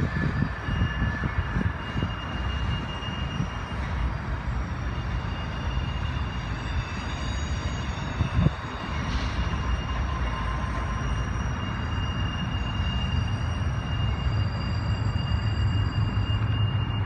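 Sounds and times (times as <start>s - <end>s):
faint high squeal: 0.0s - 17.0s
freight cars rumbling on rails: 0.0s - 17.0s.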